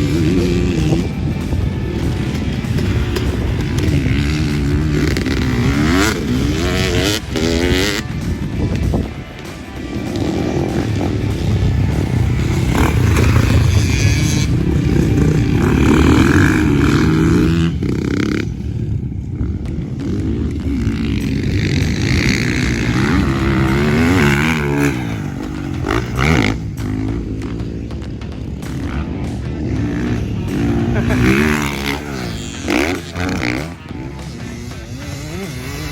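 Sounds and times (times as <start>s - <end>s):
motocross engine revving: 0.0s - 35.9s.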